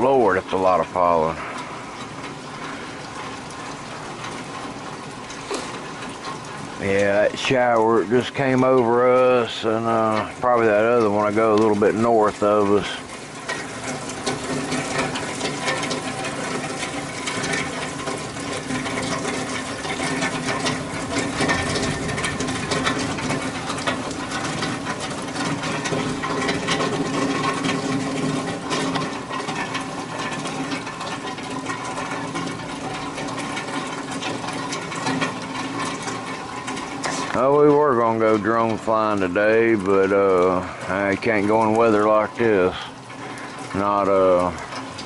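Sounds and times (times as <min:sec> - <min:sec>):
rain falling: 0:00.0 - 0:45.0.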